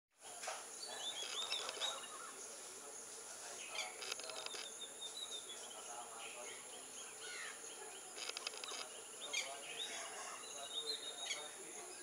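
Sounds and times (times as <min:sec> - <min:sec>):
steady high hiss: 0:00.2 - 0:12.0
wild birds chirping: 0:00.3 - 0:12.0.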